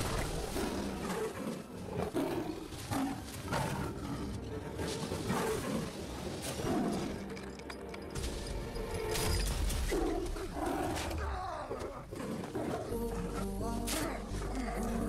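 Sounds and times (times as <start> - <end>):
tiger snarling and roaring: 0.0 - 7.8, 8.8 - 15.0.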